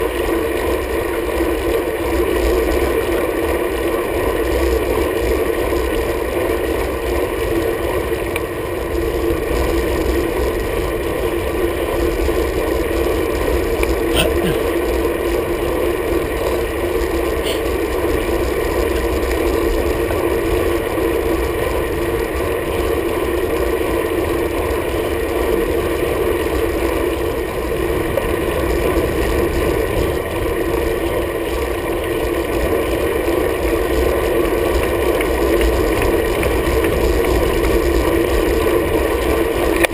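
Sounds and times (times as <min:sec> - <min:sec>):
road vibration: 0:00.0 - 0:39.9.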